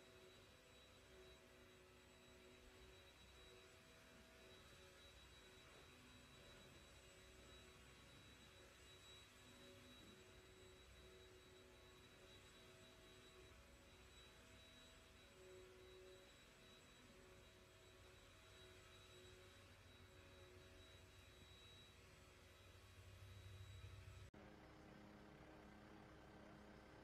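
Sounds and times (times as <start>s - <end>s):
faint high whine: 0.0s - 27.0s.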